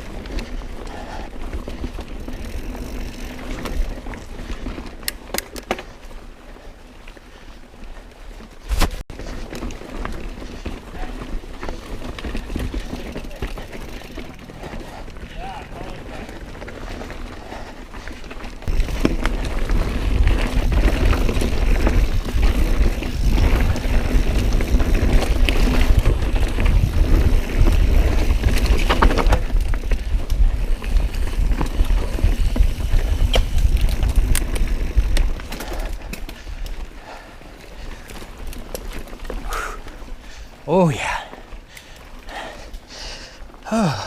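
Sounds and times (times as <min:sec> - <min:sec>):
bike rattling over rocks: 0:00.0 - 0:44.0
wind and tyre rumble: 0:00.0 - 0:44.0.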